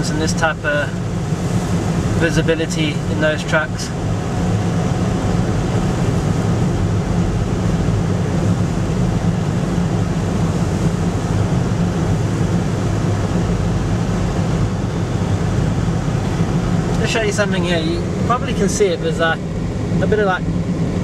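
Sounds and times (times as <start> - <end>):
car engine and tyre noise: 0.0 - 21.0
strong wind against car: 0.0 - 21.0.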